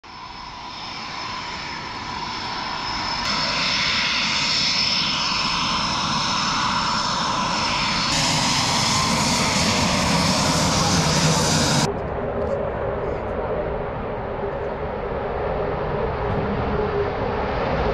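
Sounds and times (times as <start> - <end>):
jet engine roar with whine: 0.0 - 17.9.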